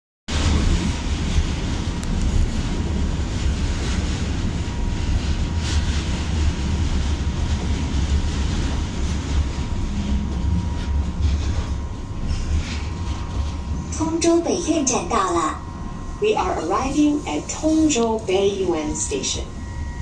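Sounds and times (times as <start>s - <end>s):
faint train whine: 0.3s - 20.0s
train rumble and hiss: 0.3s - 20.0s.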